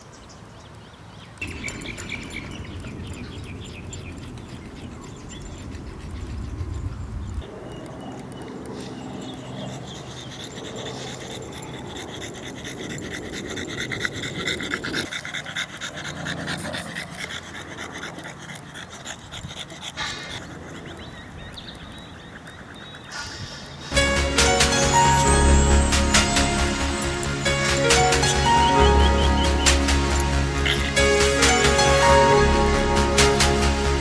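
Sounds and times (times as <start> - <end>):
dog panting fast: 1.4 - 33.7.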